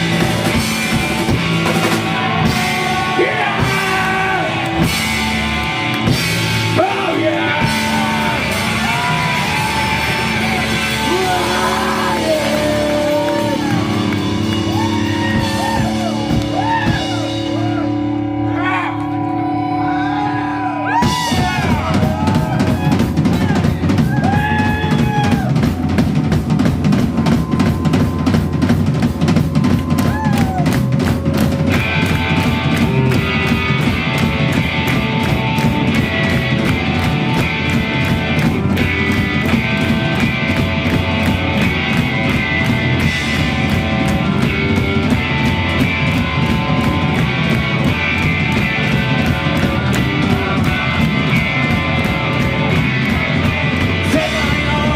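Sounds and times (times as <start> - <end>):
drum beat: 0.0 - 17.9, 20.9 - 54.9
distorted guitar chords: 0.0 - 29.9, 30.5 - 54.9.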